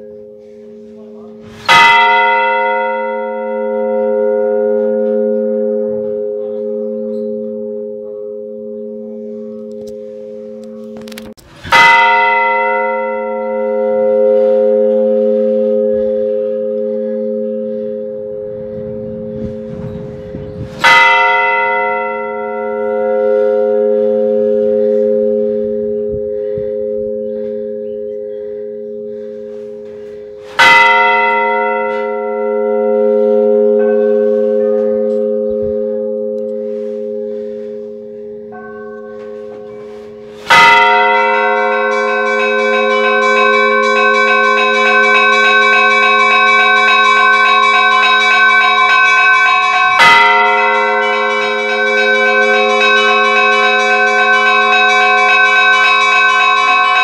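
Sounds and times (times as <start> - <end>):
higher bell notes: 0.0 - 57.0
large church bell tolling: 0.0 - 57.0.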